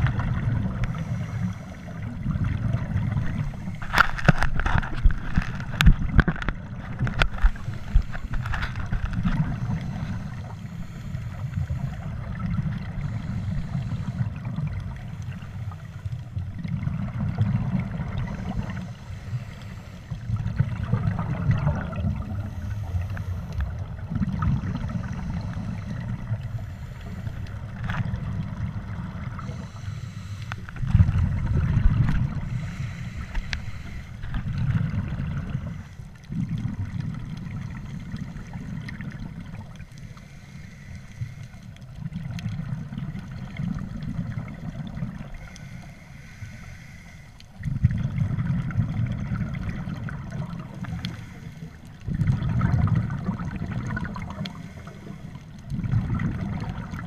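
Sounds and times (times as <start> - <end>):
underwater breath bubbling: 0.0 - 57.0
faint steady hiss: 5.4 - 57.0.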